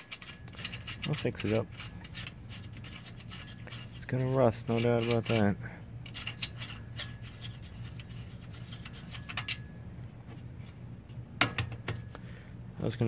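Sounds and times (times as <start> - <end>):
metal axle rubbing and scraping: 0.0 - 12.2.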